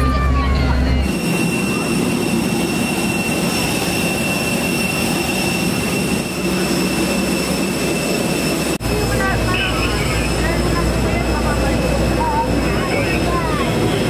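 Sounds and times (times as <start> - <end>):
jet turbine running: 1.0 - 14.0.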